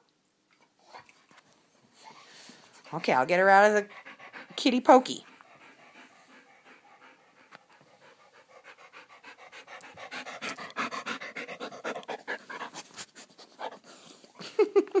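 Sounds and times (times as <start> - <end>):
dog panting rapidly: 2.1 - 14.3.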